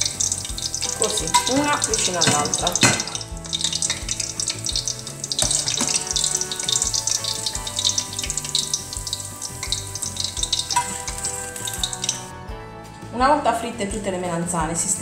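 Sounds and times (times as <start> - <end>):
food deep-frying in oil: 0.0 - 12.3
soft background music: 0.0 - 15.0.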